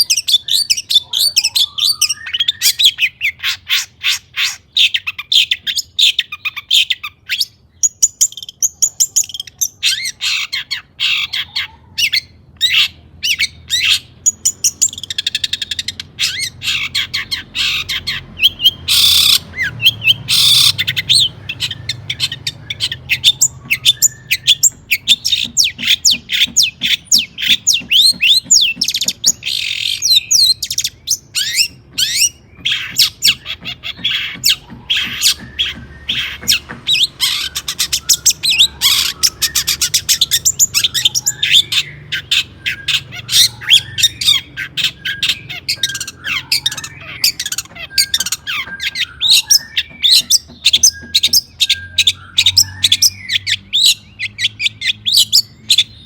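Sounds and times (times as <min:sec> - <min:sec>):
shrike chattering song: 0:00.0 - 0:56.0.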